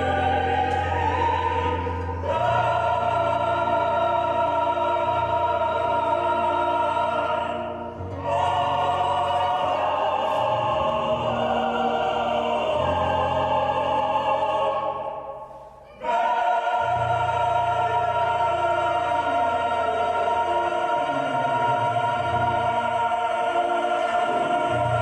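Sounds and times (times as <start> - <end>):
classical singing: 0.0 - 25.0.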